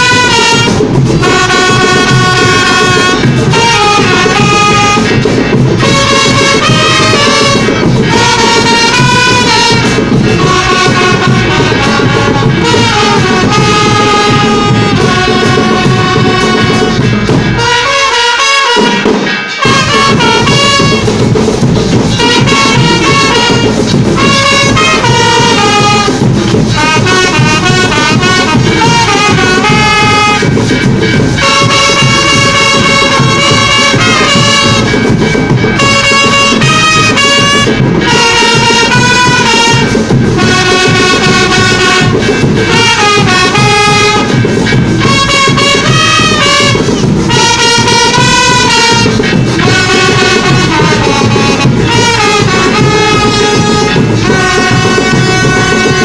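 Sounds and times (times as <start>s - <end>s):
marching band trumpets and drums: 0.0s - 56.0s.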